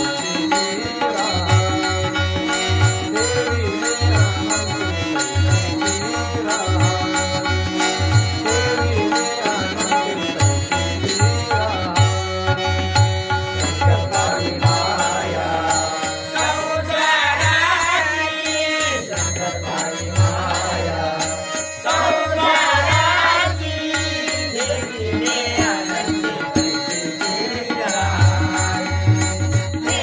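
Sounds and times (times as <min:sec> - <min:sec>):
jingling hand cymbals: 0:00.0 - 0:30.0
person singing devotional chant: 0:00.0 - 0:30.0.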